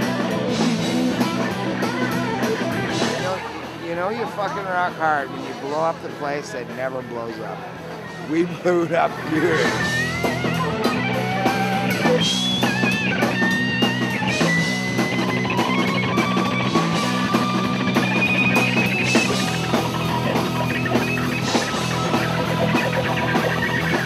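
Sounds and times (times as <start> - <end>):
drum kit playing a steady beat: 0.0 - 5.4, 9.2 - 24.0
electric guitars: 0.0 - 6.8, 7.5 - 24.0.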